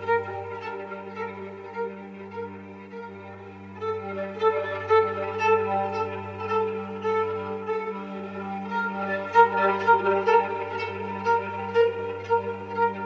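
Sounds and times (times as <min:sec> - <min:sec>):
slow string music: 0:00.0 - 0:13.0.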